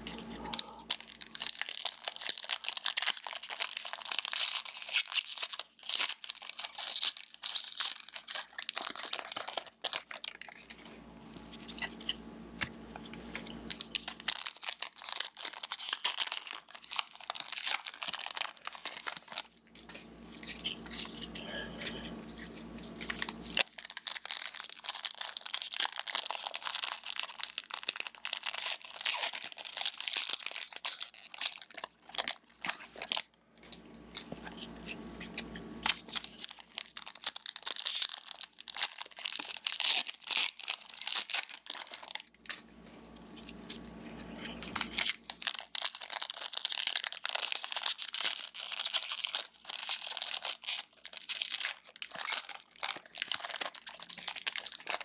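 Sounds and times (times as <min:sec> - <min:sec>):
wrappers crinkling and tearing: 0:00.0 - 0:55.0.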